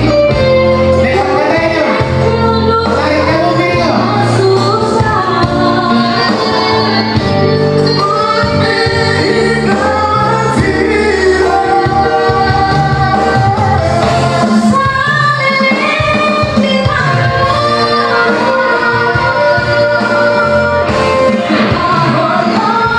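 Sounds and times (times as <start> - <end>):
live band music: 0.0 - 22.9
woman singing into microphone: 0.0 - 22.9.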